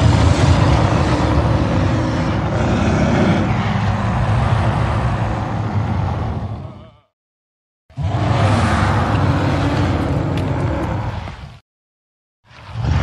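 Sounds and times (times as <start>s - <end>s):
bear roaring: 0.0s - 7.1s, 7.9s - 11.3s.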